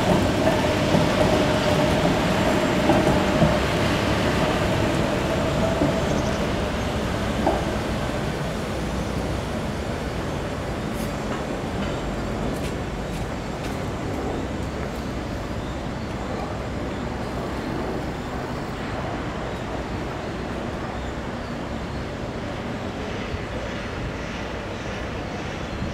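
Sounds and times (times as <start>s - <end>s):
city street traffic: 0.0s - 25.9s
tram rolling on rails: 0.0s - 25.9s.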